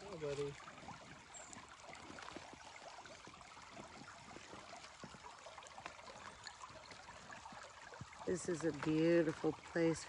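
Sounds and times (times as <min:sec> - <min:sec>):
creek trickling: 0:00.0 - 0:10.0
small watery plinks: 0:00.0 - 0:10.0.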